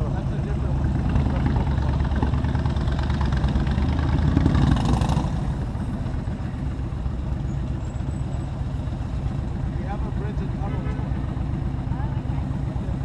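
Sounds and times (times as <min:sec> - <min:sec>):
motorcycle engine at low revs: 0:00.0 - 0:13.0
rush of traffic noise: 0:00.0 - 0:13.0.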